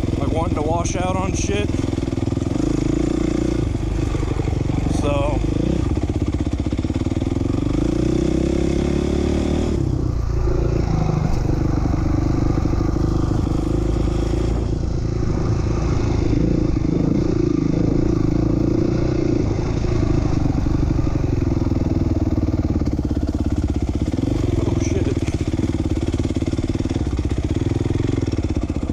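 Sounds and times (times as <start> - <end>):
motocross bike engine revving: 0.0 - 28.9.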